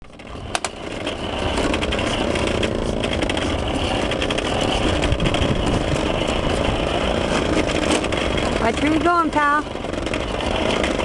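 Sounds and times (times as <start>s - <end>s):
rapid clicking: 0.0s - 11.0s
toy lawnmower motor running: 0.1s - 11.0s.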